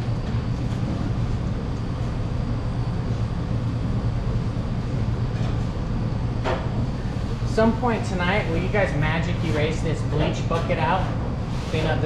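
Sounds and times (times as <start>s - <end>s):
kitchen machinery drone: 0.0s - 12.0s.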